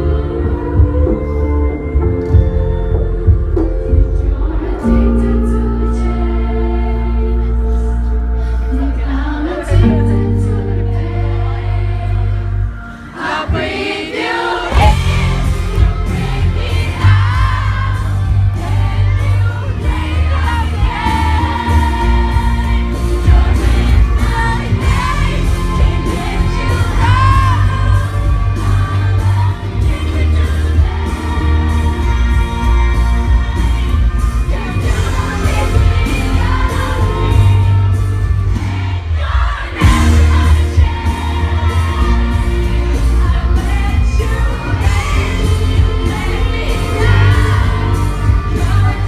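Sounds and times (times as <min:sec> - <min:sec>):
audience: 0:00.0 - 0:49.0
bass-heavy backing track: 0:00.0 - 0:49.0
female voices singing in harmony: 0:00.0 - 0:49.0.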